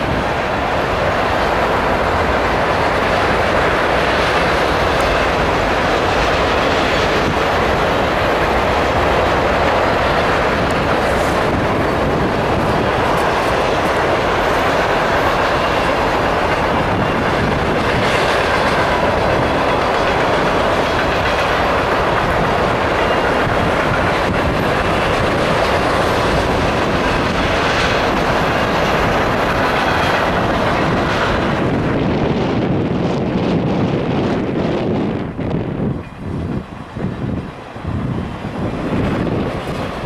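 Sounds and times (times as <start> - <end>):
freight train rumbling past: 0.0 - 40.0
steel wheels clattering on rails: 0.0 - 40.0.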